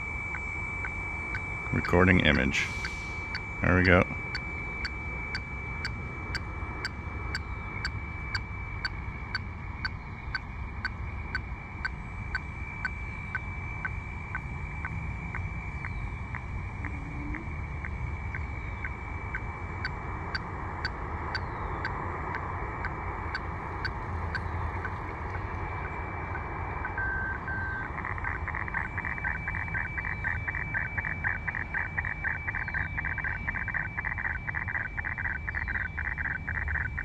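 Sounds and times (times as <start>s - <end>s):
brief lower tone: 0.0s - 37.0s
fast buzzing warble: 0.0s - 37.0s
steady high radio tone: 0.0s - 37.0s.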